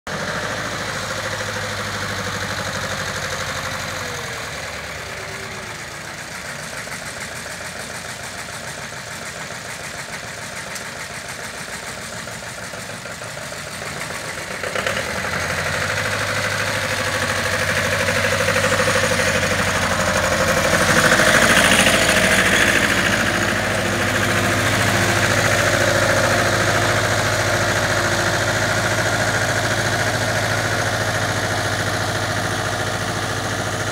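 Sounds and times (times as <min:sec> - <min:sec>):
diesel engine idling and revving: 0:00.1 - 0:33.9.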